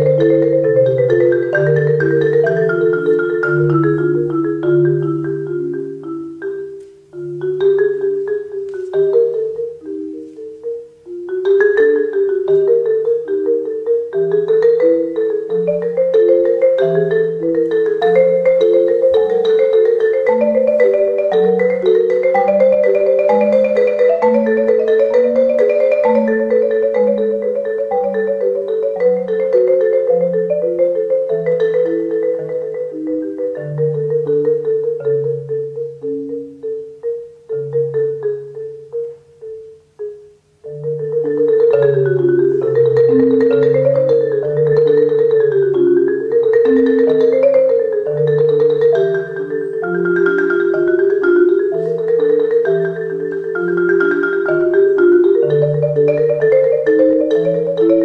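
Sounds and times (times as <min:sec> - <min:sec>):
marimba played with mallets: 0:00.0 - 0:58.0.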